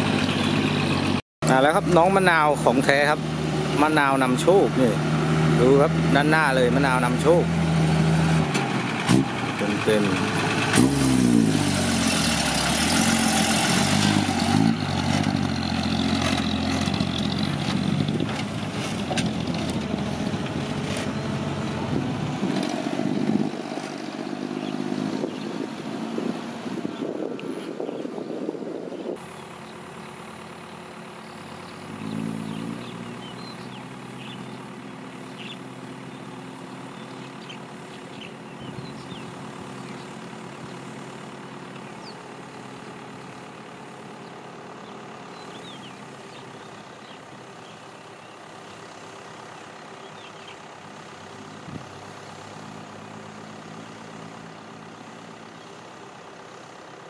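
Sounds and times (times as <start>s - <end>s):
truck engine passing: 0.0s - 57.0s.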